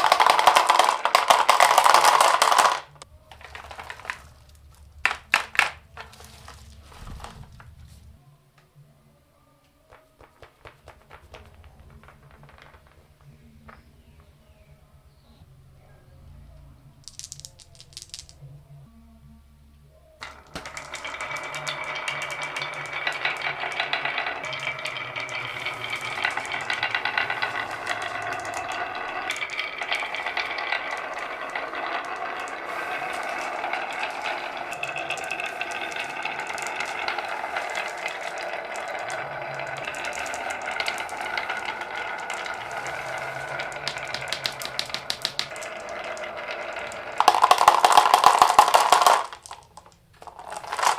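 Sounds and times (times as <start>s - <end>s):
balls rolling through marble run: 0.0s - 7.8s, 9.8s - 14.8s, 17.0s - 18.4s, 20.2s - 50.9s.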